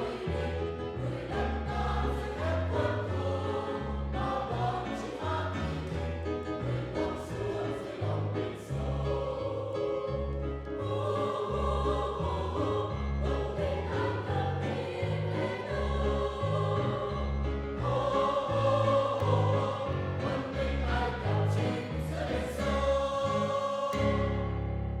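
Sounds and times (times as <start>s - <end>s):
choir singing a hymn: 0.0s - 25.0s
keyboard accompaniment: 0.0s - 25.0s.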